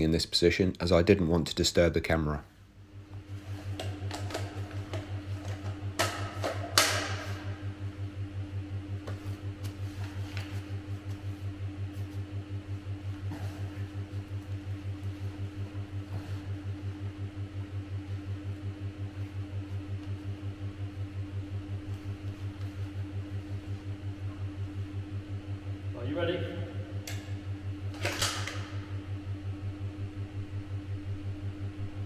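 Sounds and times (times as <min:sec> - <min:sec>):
low mechanical hum throbbing: 0:00.0 - 0:32.0.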